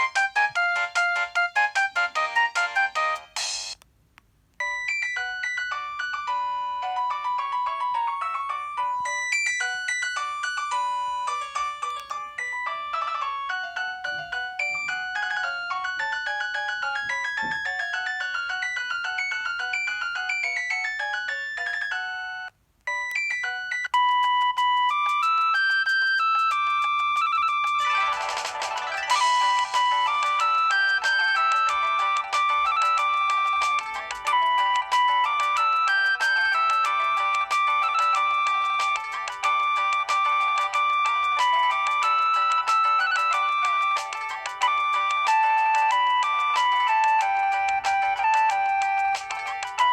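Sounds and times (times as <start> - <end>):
polyphonic ringtone melody: 0.0 - 3.8, 4.6 - 49.9
mobile phone ringtones: 4.6 - 49.9.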